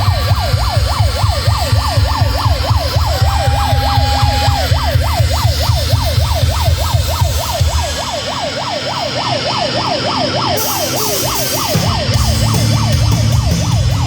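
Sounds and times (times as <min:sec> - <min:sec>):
loud live rock music: 0:00.0 - 0:08.8, 0:10.4 - 0:14.0
siren-like yelp: 0:00.0 - 0:14.0.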